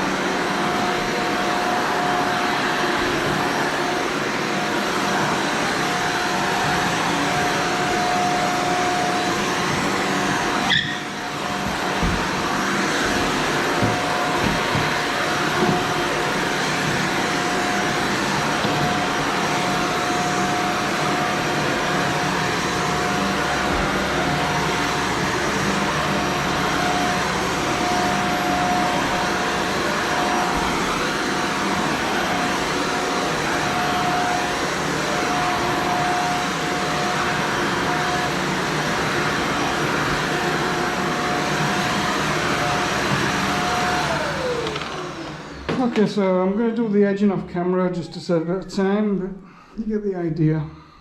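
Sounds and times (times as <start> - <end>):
upright vacuum cleaner running: 0.0 - 49.1.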